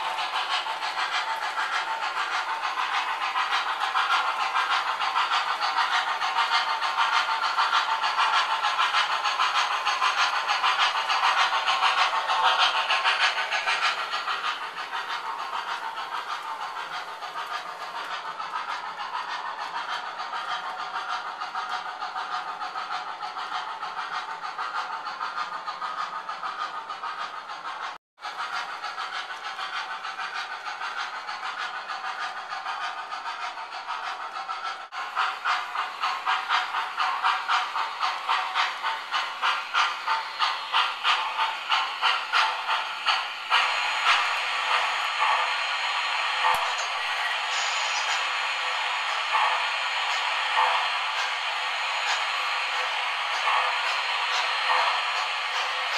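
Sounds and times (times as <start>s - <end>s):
model train steam effects: 0.0s - 55.9s
model train wheels rattling: 0.0s - 55.9s.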